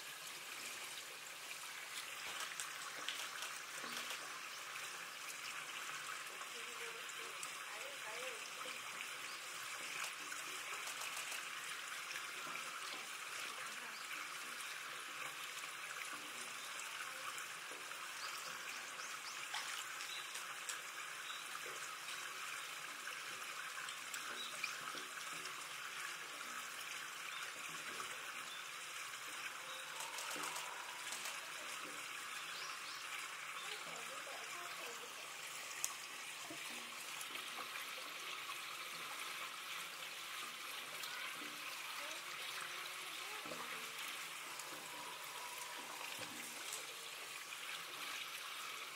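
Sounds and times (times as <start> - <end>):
running water trickling: 0.0 - 48.9.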